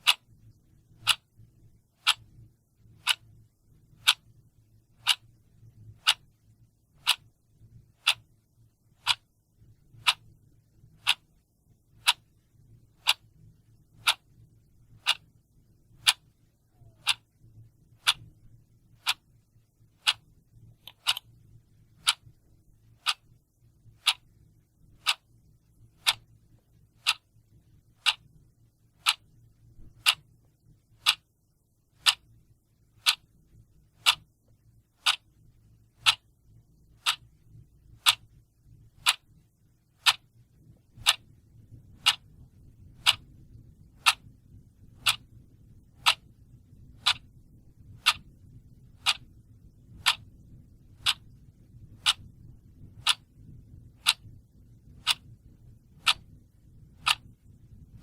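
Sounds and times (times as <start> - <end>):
clock ticking: 0.0 - 4.4, 5.0 - 8.3, 8.9 - 9.3, 9.9 - 19.3, 19.9 - 28.4, 29.0 - 31.3, 32.0 - 32.4, 33.0 - 33.4, 34.0 - 34.4, 35.0 - 35.4, 36.0 - 36.3, 37.0 - 58.0.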